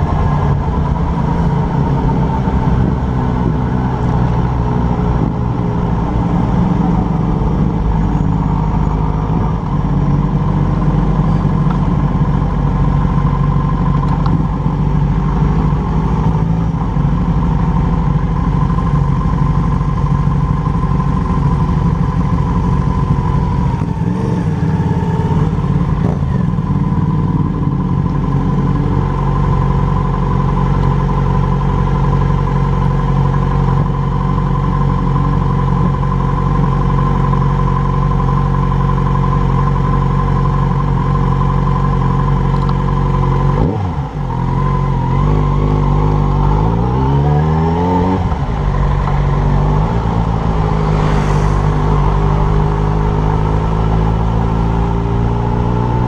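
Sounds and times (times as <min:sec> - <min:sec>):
motorcycle engine idling: 0:00.0 - 0:55.5.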